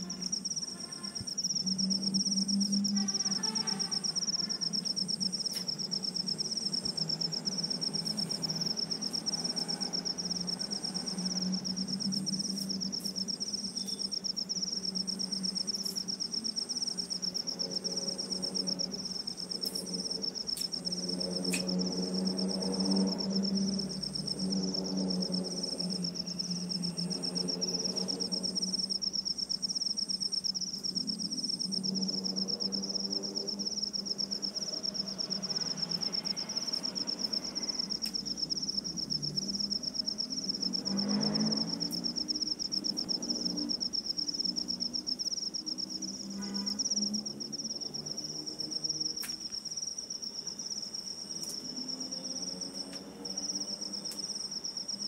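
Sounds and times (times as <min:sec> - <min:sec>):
higher insect chirping: 0:00.0 - 0:55.0
insect trilling: 0:00.0 - 0:55.0.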